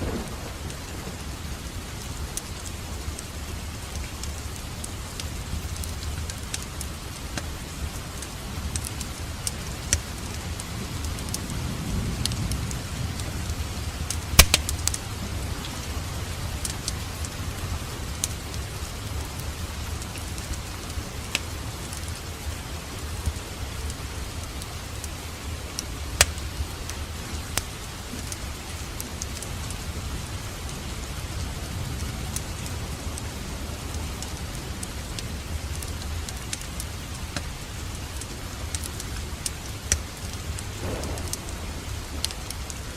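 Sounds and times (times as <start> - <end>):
fire crackling and popping: 0.0 - 42.9
flames rumbling in fireplace: 0.5 - 30.0, 32.0 - 42.9.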